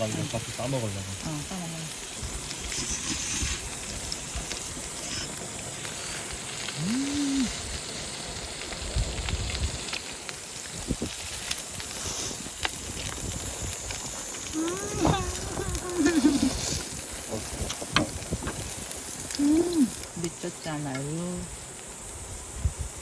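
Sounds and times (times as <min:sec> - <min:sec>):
food sizzling in a hot pan: 0:00.0 - 0:23.0.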